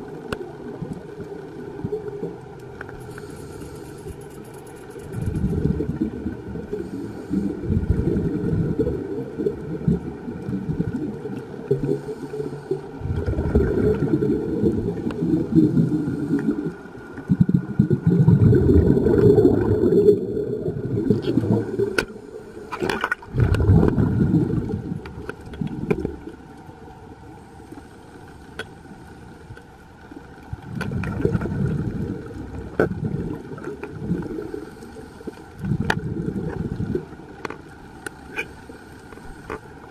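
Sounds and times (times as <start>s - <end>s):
underwater rumble and bubbles: 0.0s - 39.9s.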